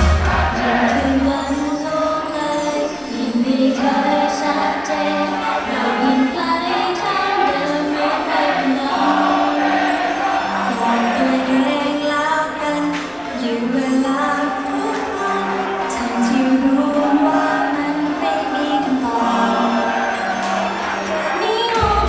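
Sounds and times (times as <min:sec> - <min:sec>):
loud backing music: 0:00.0 - 0:22.0
women singing pop song together: 0:00.2 - 0:22.0.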